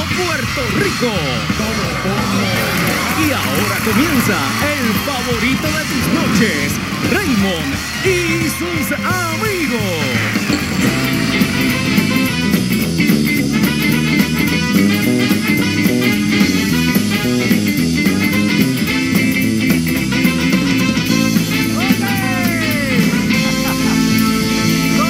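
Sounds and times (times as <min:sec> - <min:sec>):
band playing rock instrumental: 0:00.0 - 0:25.0
sliding guitar notes: 0:01.6 - 0:25.0.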